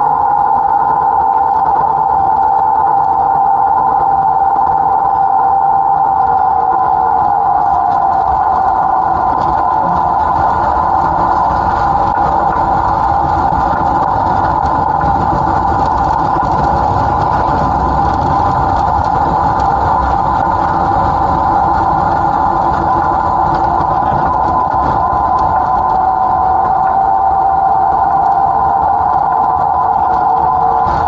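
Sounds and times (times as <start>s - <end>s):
diesel engine droning with whine: 0.0s - 31.0s.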